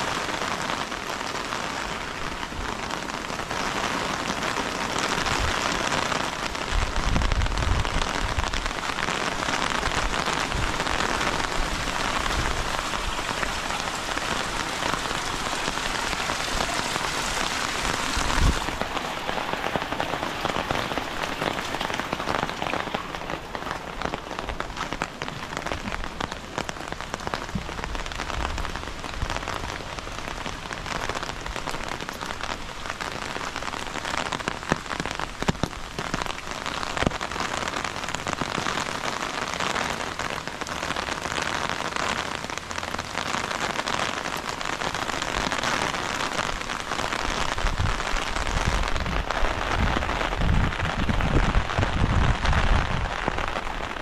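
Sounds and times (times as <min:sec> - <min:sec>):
heavy rain hissing: 0:00.0 - 0:54.0
raindrops ticking close by: 0:00.0 - 0:54.0.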